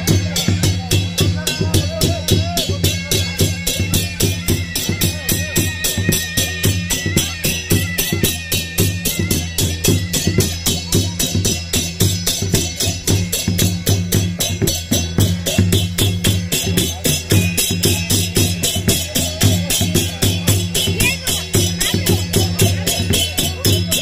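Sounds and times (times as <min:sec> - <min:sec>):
fast drumming: 0:00.0 - 0:24.0.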